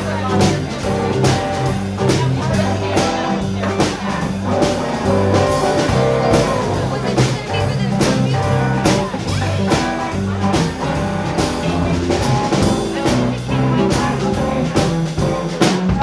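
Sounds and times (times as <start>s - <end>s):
drum kit backbeat: 0.0s - 16.0s
electric bass: 0.0s - 16.0s
guitar: 0.0s - 16.0s
keyboard: 0.0s - 16.0s.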